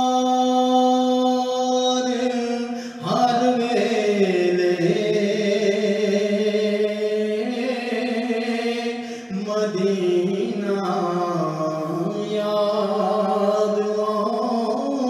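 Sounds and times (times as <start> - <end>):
man singing long held notes: 0.0 - 15.0.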